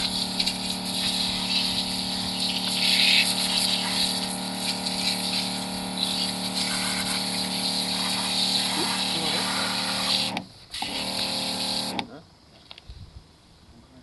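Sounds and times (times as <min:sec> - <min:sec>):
water jet hissing: 0:00.0 - 0:12.0
electric pump humming: 0:00.0 - 0:12.1.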